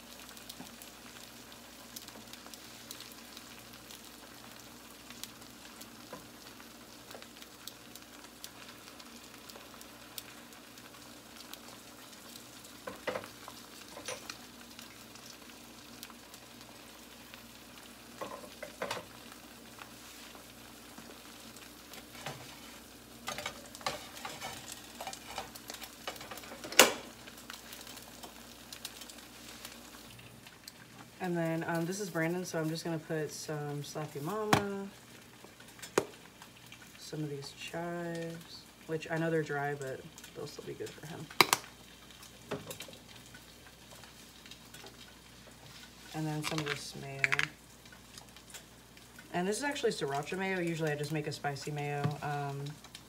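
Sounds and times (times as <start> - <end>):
eggs sizzling in skillet: 0.0 - 53.0.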